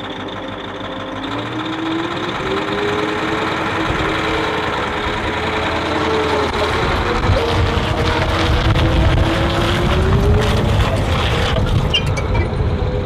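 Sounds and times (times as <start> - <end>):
armoured vehicle engine idling: 0.0 - 13.0
rising engine whine: 0.0 - 13.0.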